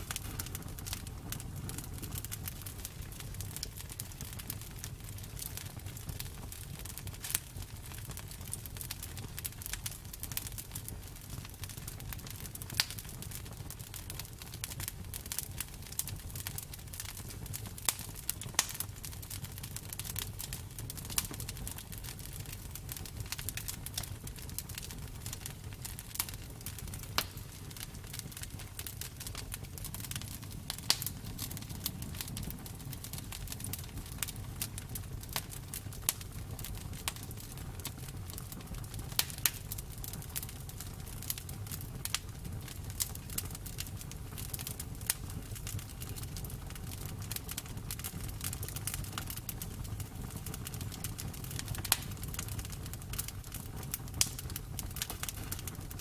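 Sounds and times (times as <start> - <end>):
burning wood crackling and popping: 0.0 - 56.0
campfire flames rumbling: 0.0 - 56.0.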